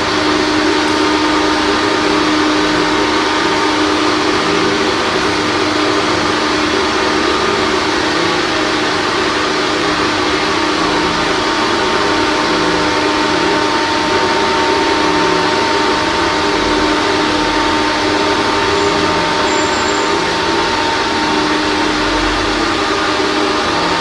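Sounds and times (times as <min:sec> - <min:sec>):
exhaust fan air rush: 0:00.0 - 0:24.0.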